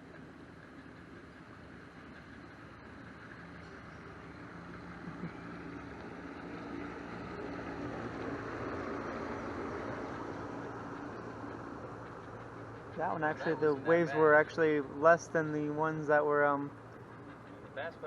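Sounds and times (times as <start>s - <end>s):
outboard motor running: 2.4s - 17.9s.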